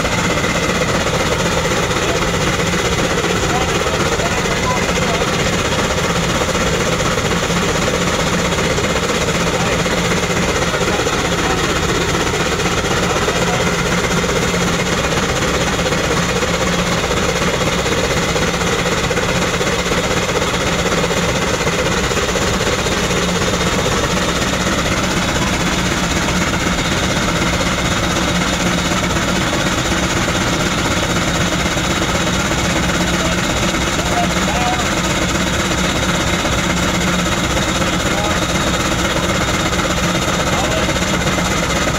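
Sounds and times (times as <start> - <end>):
steam engine running: 0.0 - 41.9.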